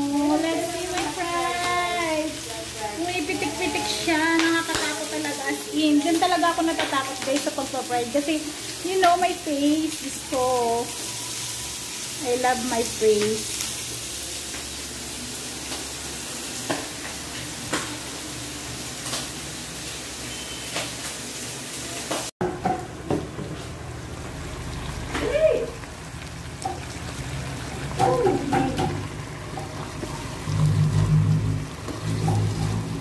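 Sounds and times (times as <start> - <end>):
meat sizzling in hot oil: 0.0 - 33.0.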